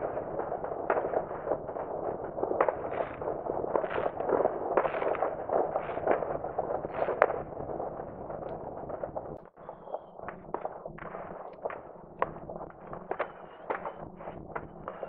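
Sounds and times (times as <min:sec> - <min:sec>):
louder firework cracks: 0:00.0 - 0:09.4, 0:10.3 - 0:15.0
distant fireworks bangs and crackles: 0:00.0 - 0:15.0.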